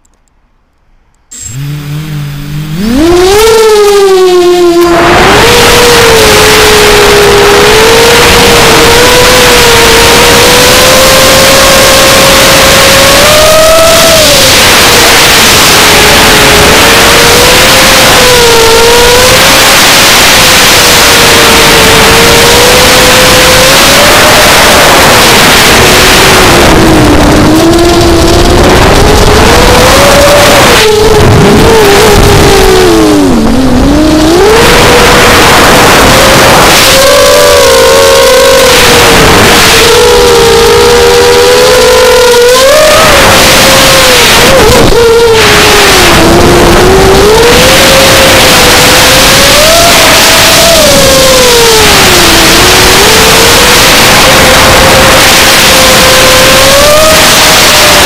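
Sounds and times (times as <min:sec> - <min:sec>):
drone propeller whine: 0:01.3 - 0:58.0.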